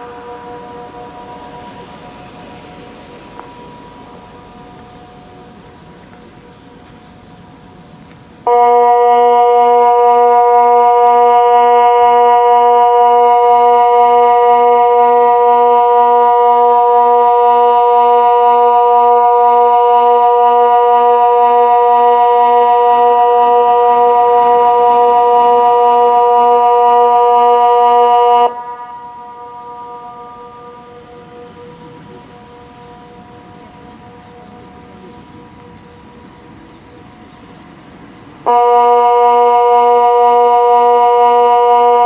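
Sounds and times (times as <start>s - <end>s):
electronic siren steady tone: 0.0s - 7.0s, 8.4s - 37.2s, 38.4s - 42.0s.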